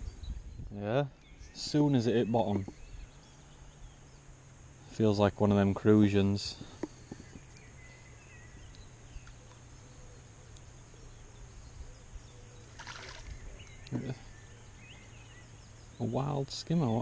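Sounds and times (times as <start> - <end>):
faint bird chirps: 0.0 - 17.0
rustle: 0.0 - 17.0
steady low hum: 0.0 - 17.0.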